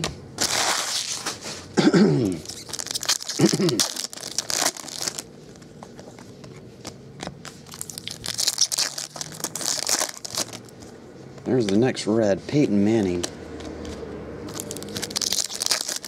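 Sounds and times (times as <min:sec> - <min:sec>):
foil wrappers and cards rustling: 0:00.0 - 0:06.7, 0:07.4 - 0:16.0.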